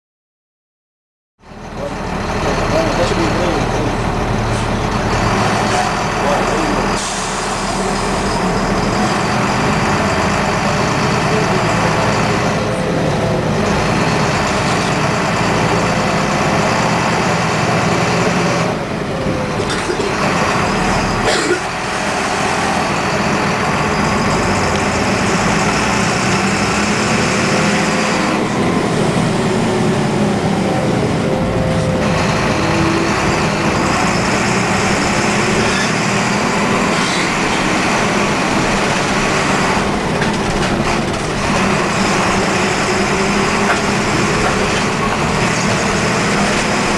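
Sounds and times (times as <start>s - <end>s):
bus diesel engine running: 1.4s - 46.9s.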